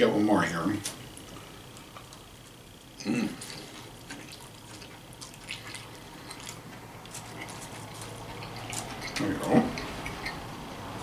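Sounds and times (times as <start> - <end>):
quiet wet chewing: 0.8 - 2.6, 3.3 - 10.5.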